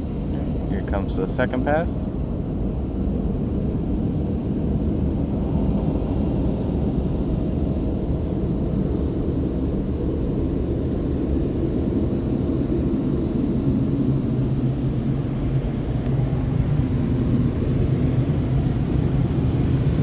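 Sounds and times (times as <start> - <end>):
blower dryers rushing air: 0.0 - 20.0.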